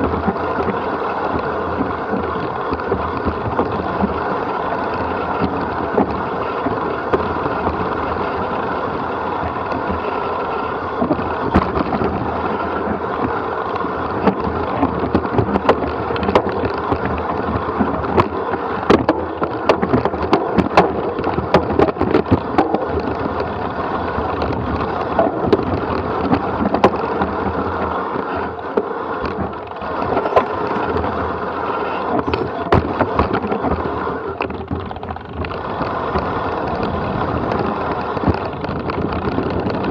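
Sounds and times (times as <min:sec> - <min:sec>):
knocks and clatters from bumps: 0:00.0 - 0:39.9
rolling rattle on dirt trail: 0:00.0 - 0:39.9
wind on microphone: 0:00.0 - 0:39.9.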